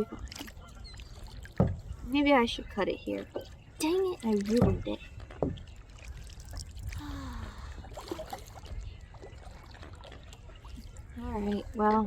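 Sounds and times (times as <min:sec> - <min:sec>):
water trickling and lapping: 0:00.0 - 0:12.0.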